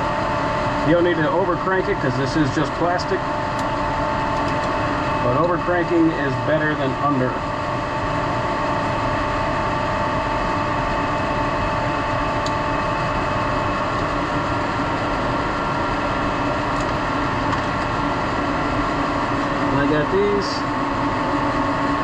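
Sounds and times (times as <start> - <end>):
machinery drone: 0.0 - 22.0.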